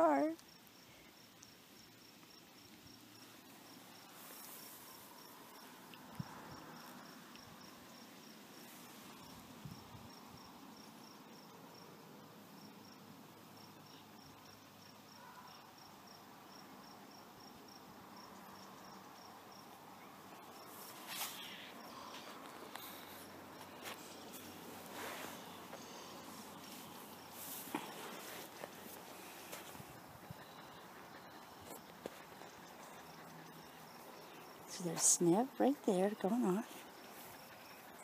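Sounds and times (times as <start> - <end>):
rustle: 0.0 - 38.0
cricket chirping: 0.4 - 35.0, 36.4 - 38.0.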